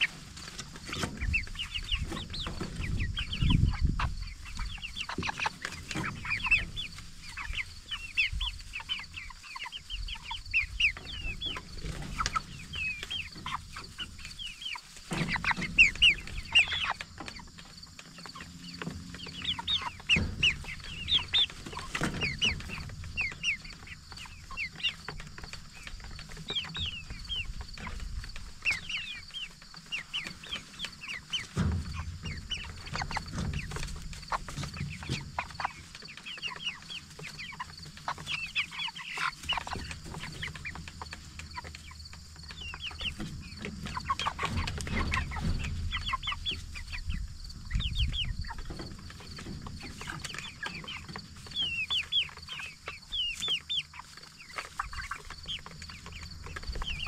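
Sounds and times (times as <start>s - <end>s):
chickens peeping and clucking: 0.0s - 57.0s.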